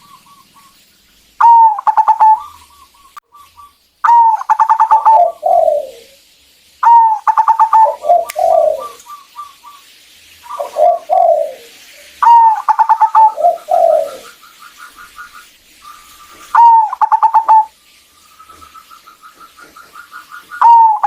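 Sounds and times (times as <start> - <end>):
dove singing and cooing: 1.4 - 6.2, 6.8 - 9.8, 10.5 - 17.7, 18.4 - 21.0.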